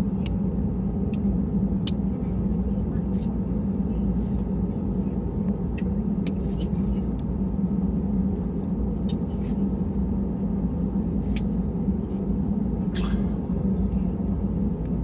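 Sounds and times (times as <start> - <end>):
aircraft cabin drone: 0.0 - 15.0.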